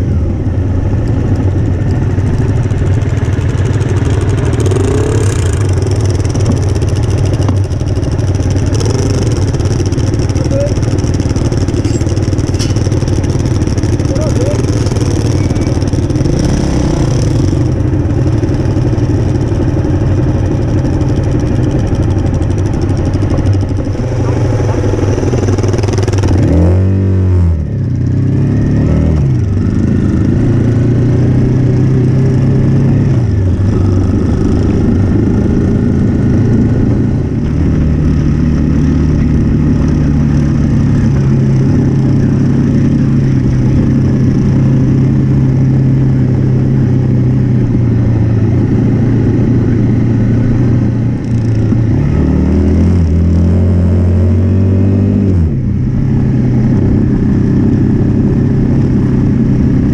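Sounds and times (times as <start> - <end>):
motorcycle engine while riding: 0.0 - 59.9.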